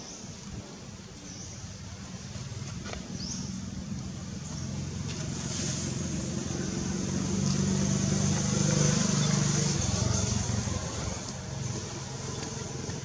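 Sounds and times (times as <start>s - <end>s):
vehicle engine running: 2.3s - 13.0s.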